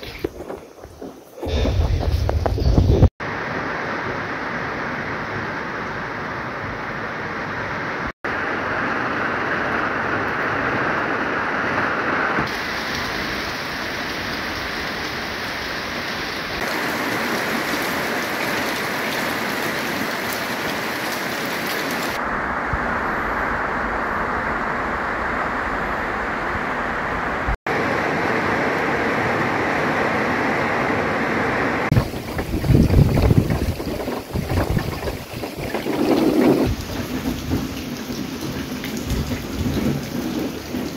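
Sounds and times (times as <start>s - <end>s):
steady rain falling: 3.2s - 40.9s.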